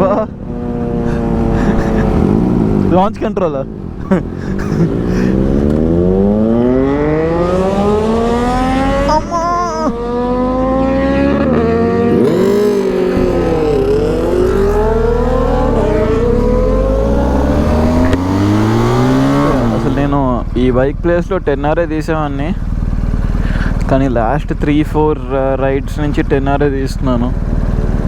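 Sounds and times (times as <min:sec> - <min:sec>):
motorcycle engine accelerating: 0:00.1 - 0:03.2, 0:03.8 - 0:28.0.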